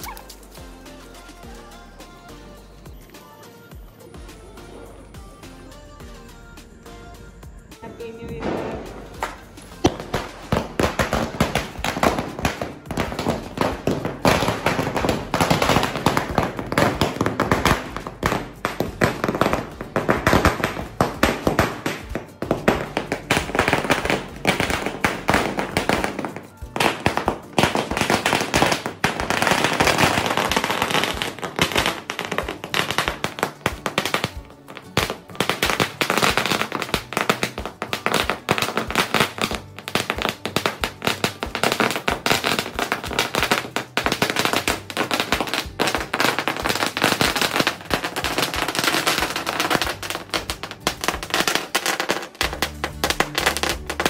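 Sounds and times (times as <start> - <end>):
firecrackers banging rapidly: 8.0 - 54.0.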